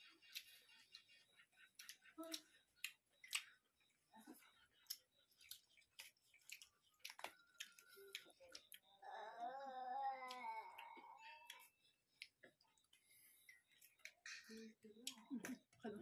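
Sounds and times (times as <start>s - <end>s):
chewing and wet mouth clicks: 0.0s - 9.0s, 10.2s - 14.4s, 15.0s - 15.8s.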